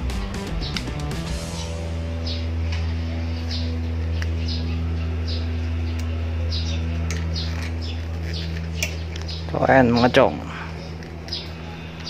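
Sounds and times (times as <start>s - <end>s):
steady low hum: 0.0s - 12.0s
bird chirping: 0.3s - 12.0s.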